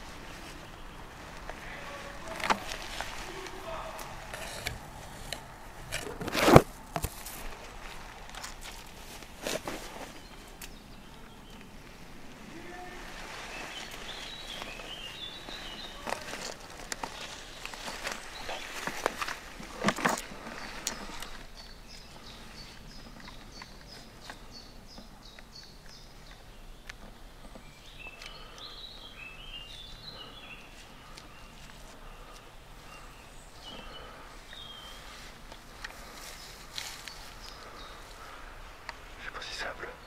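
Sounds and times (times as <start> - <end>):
wild birds singing: 0.0 - 40.0.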